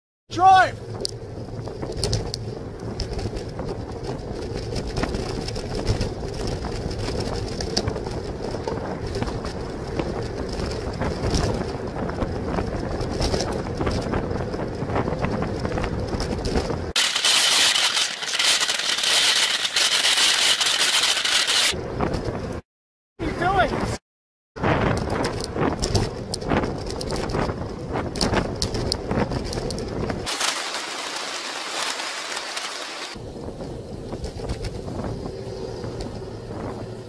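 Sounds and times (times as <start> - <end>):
bicycle road rumble: 0.3 - 22.6, 24.6 - 37.0
wind noise: 0.7 - 22.6, 24.6 - 37.0.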